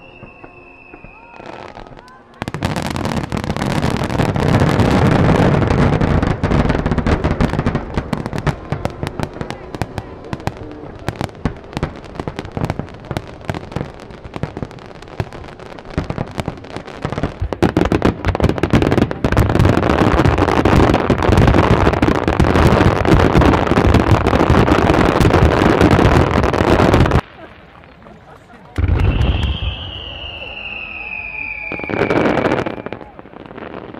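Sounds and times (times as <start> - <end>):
fireworks exploding: 0.0 - 33.9.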